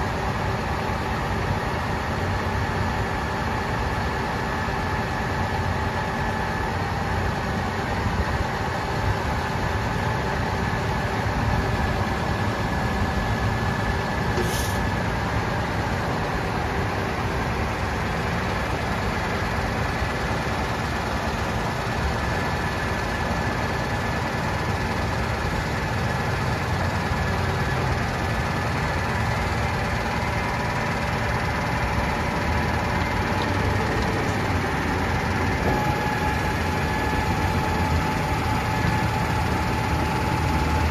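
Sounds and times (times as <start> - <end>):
constant mechanical whine: 0.0 - 40.9
truck engine running: 0.0 - 40.9.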